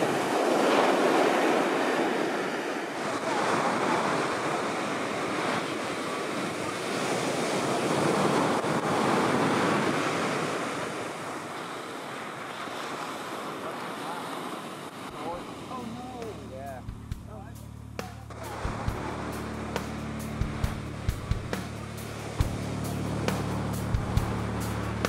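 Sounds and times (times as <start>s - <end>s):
surf breaking and rushing: 0.0s - 25.0s.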